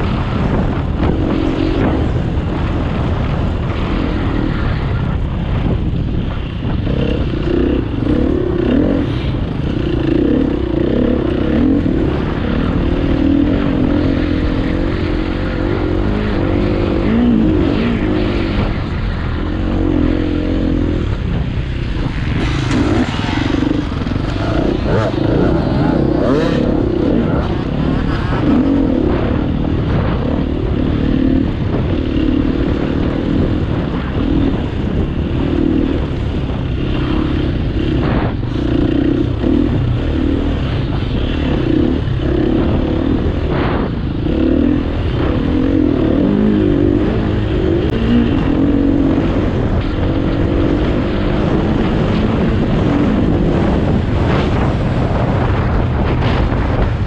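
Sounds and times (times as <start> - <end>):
motorcycle engine revving under load: 5.8 - 57.0.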